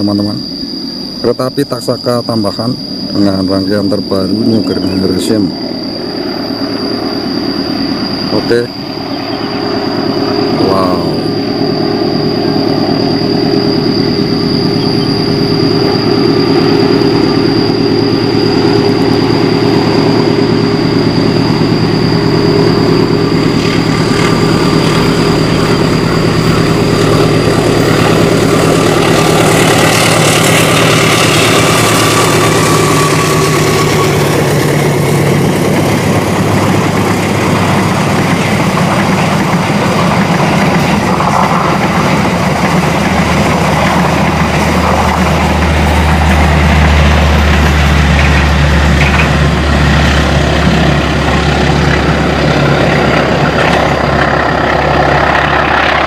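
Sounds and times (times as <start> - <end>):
diesel locomotive engine hum: 0.0 - 56.0
train wheels on rail: 1.8 - 56.0.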